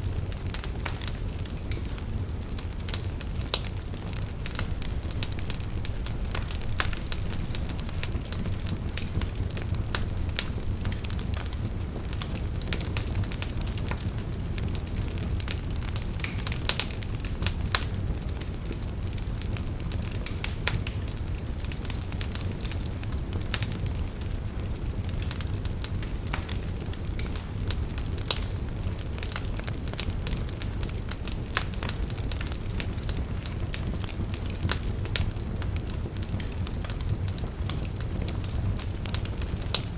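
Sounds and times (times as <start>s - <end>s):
burning wood crackling and popping: 0.0s - 39.9s
fire rumbling: 0.0s - 39.9s.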